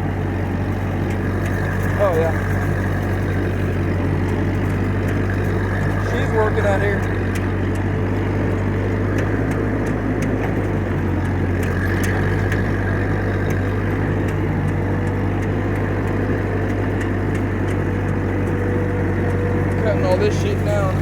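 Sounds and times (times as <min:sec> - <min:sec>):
tractor engine under load: 0:00.0 - 0:21.0.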